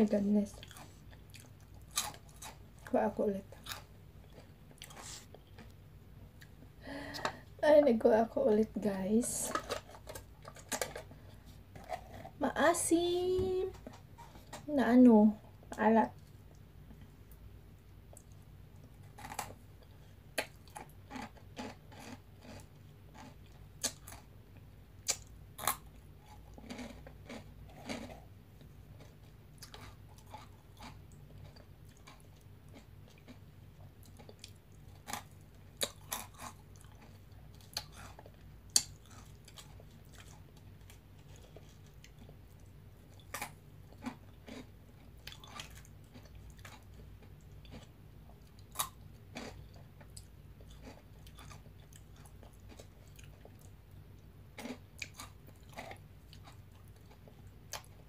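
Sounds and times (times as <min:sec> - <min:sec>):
crunchy snack being chewed: 0:00.5 - 0:02.9, 0:03.5 - 0:05.8, 0:09.4 - 0:12.4, 0:18.1 - 0:53.8, 0:54.5 - 0:58.0.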